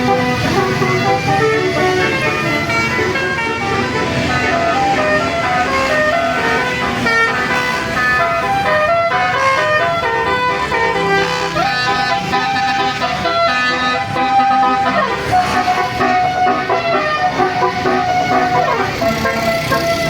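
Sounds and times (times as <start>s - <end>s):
bus engine running: 0.0s - 20.0s
multi-tone air horn melody: 0.0s - 20.0s
traffic: 0.0s - 20.0s.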